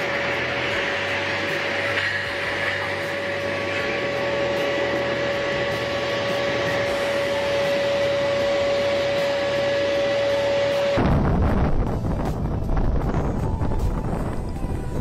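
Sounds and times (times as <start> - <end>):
ship sliding down slipway roar: 0.0 - 14.2
steady high tone: 0.0 - 15.0.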